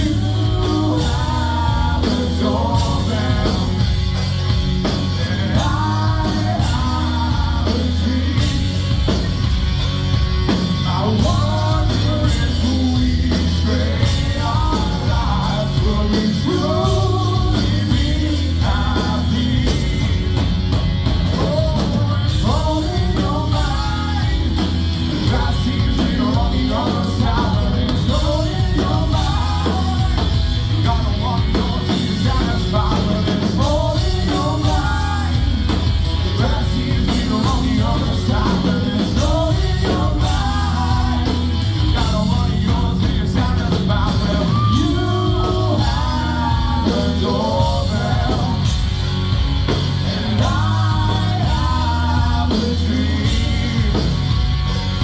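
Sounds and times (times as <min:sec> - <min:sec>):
person singing: 0:00.0 - 0:09.3, 0:10.6 - 0:20.5, 0:21.2 - 0:54.6
live rock band playing: 0:00.0 - 0:55.0.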